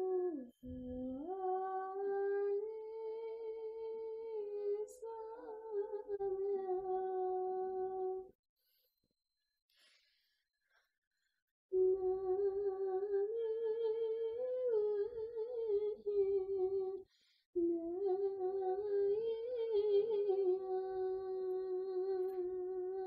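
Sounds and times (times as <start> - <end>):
person humming a melody: 0.0 - 8.3, 11.7 - 17.0, 17.6 - 23.0.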